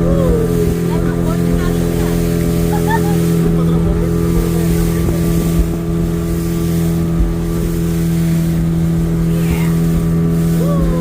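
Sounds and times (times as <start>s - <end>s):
motorboat engine running: 0.0s - 11.0s
wind buffeting microphone: 0.0s - 11.0s.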